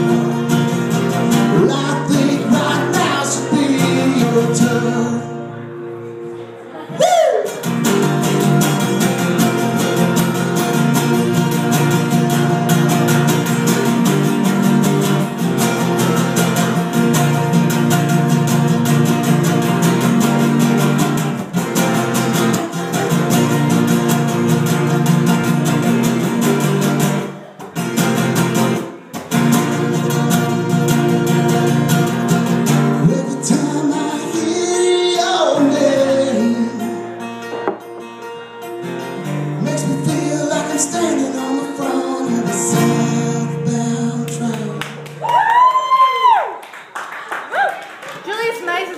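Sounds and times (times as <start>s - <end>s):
acoustic guitar strumming: 0.0s - 45.2s.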